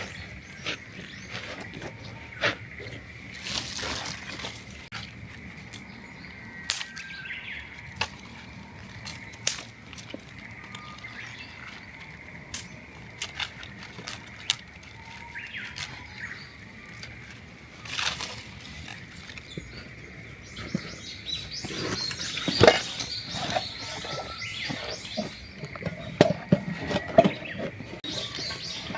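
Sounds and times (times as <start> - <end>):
birds chirping: 0.0 - 28.9
rustle: 0.0 - 28.9.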